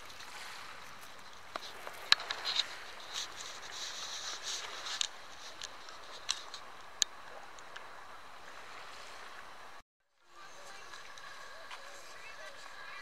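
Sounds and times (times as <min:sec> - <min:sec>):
water lapping on pebble shore: 0:00.0 - 0:09.5, 0:10.2 - 0:13.0.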